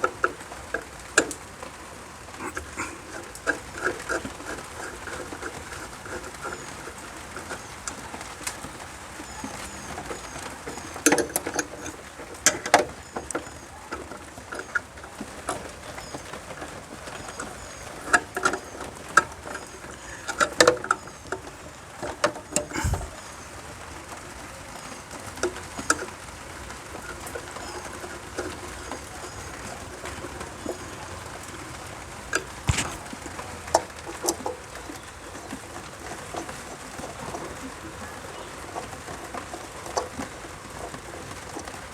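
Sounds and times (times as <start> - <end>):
clicks and taps of wiring work: 0.0 - 1.5, 2.4 - 23.3, 24.8 - 41.9
small birds chirping: 1.7 - 41.8.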